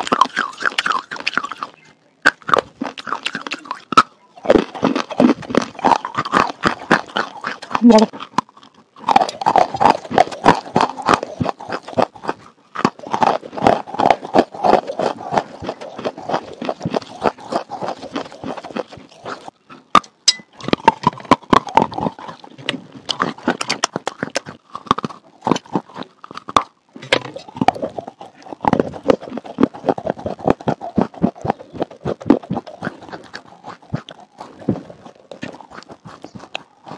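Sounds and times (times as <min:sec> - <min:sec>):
wet crunching chewing: 0:00.0 - 0:36.9.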